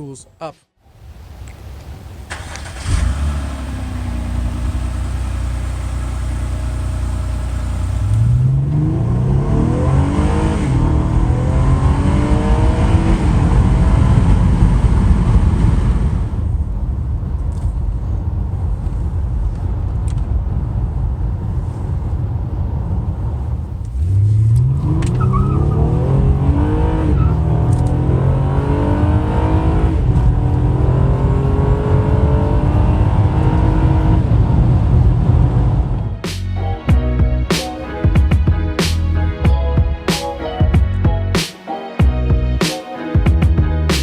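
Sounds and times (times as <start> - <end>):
road rumble: 0.8 - 40.1
car engine: 1.0 - 36.5.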